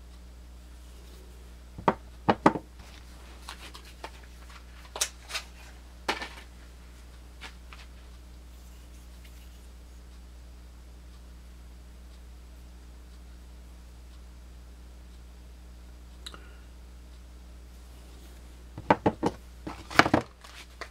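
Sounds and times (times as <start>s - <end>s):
steady low electrical hum: 0.0s - 20.9s.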